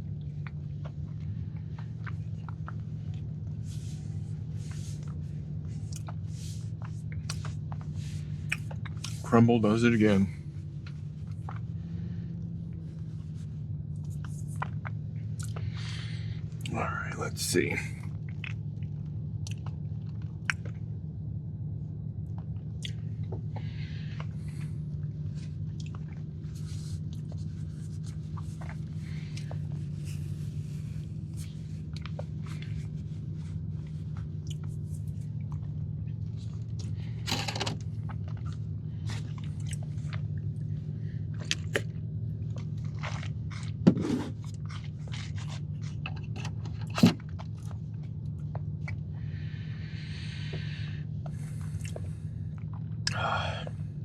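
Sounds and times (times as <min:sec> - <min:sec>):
person chewing crunchy cookie: 0:00.0 - 0:09.4, 0:10.0 - 0:16.8, 0:17.8 - 0:54.0
steady low hum: 0:00.0 - 0:54.0.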